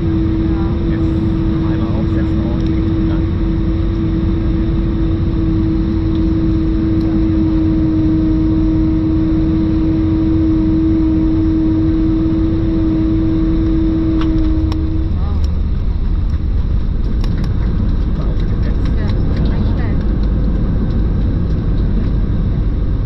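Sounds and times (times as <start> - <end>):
deep cabin rumble: 0.0 - 23.0
jet engine whine: 0.0 - 23.0.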